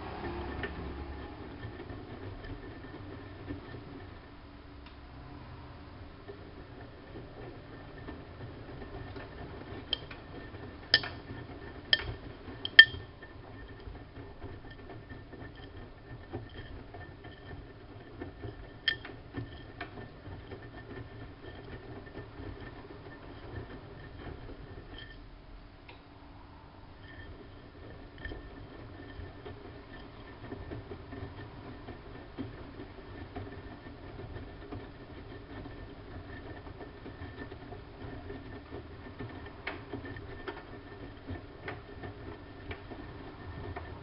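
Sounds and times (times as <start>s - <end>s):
washing machine humming: 0.0s - 44.0s.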